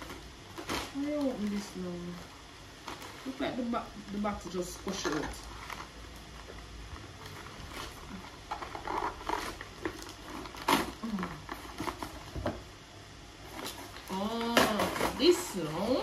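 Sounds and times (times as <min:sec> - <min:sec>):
packaging rustling and crackling: 0:00.0 - 0:12.8, 0:13.4 - 0:16.0.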